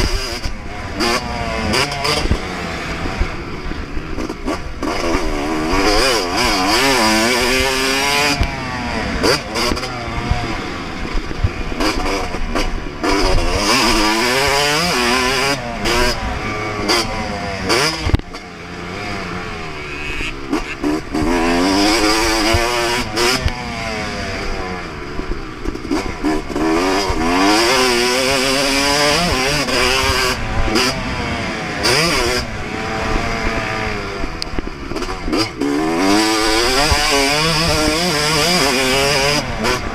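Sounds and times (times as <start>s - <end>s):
motocross engine accelerating: 0.0s - 39.9s.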